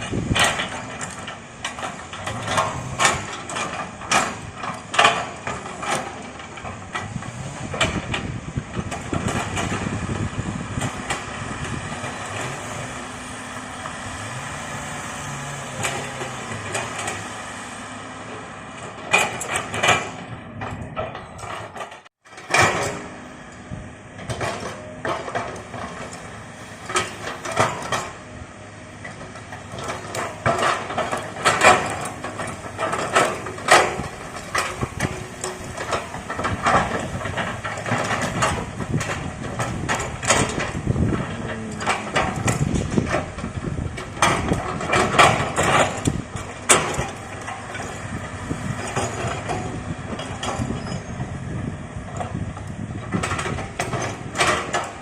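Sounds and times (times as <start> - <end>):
metallic clanks and knocks: 0.0 - 17.4, 18.3 - 23.6, 24.2 - 28.2, 29.0 - 51.4, 52.1 - 55.0
excavator diesel engine running: 0.0 - 55.0.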